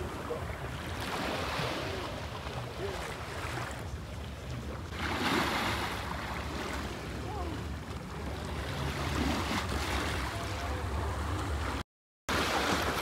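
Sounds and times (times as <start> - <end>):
sea waves washing ashore: 0.0 - 13.0.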